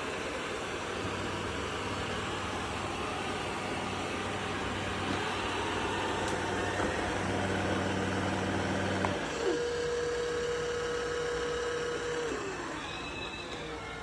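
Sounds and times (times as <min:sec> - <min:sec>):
motor whine: 0:00.0 - 0:14.0
robot vacuum motor humming: 0:00.0 - 0:14.0.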